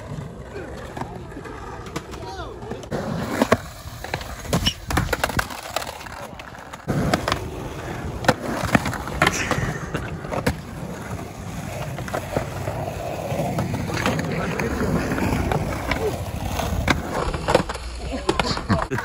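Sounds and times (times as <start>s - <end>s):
skateboard clacking on ground: 0.0s - 19.0s
skateboard wheels rolling on concrete: 0.0s - 19.0s.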